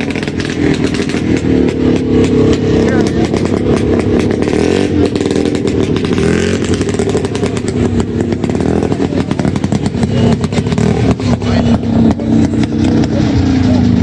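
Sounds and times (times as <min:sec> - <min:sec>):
snowmobile engine idling: 0:00.0 - 0:14.0.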